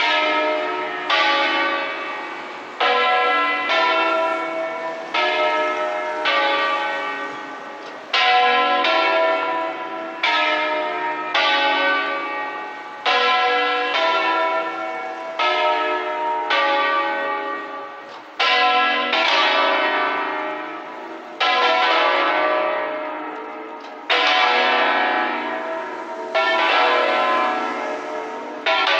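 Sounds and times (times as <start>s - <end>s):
church bells ringing: 0.0s - 28.9s.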